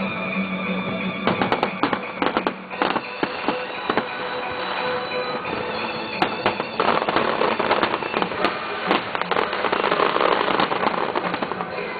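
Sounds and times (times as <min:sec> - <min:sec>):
fireworks bangs and crackling: 0:00.0 - 0:11.9.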